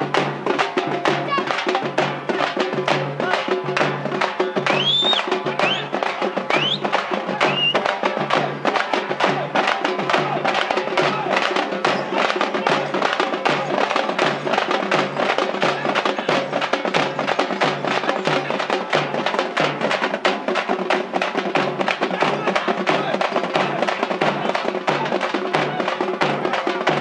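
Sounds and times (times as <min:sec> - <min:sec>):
frame drums beaten with sticks: 0:00.0 - 0:27.0.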